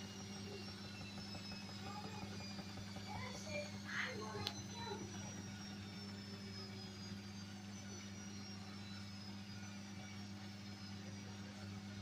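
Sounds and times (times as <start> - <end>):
steady low hum: 0.0 - 12.0
washing machine motor whine: 0.0 - 12.0.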